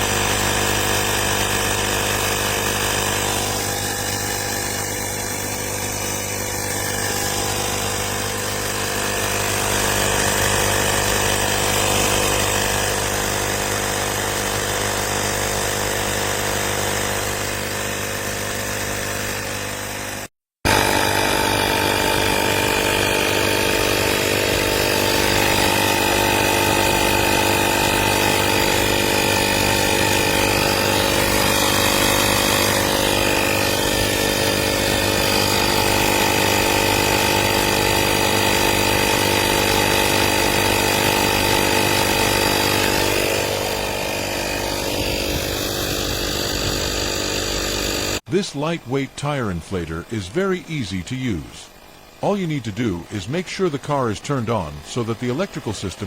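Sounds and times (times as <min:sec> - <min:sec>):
tyre inflator compressor buzzing: 0:00.0 - 0:48.4, 0:49.8 - 0:56.0.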